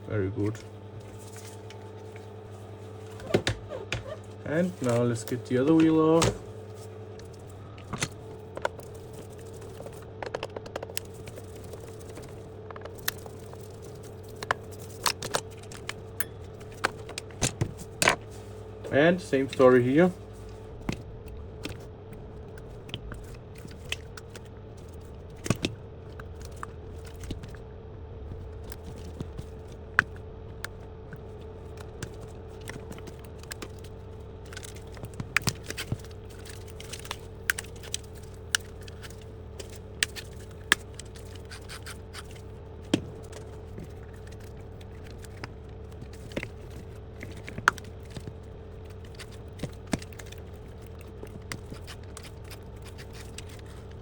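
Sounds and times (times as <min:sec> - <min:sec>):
steady hum: 0:00.0 - 0:54.0
hands working rubber tire: 0:00.4 - 0:27.6, 0:28.4 - 0:54.0.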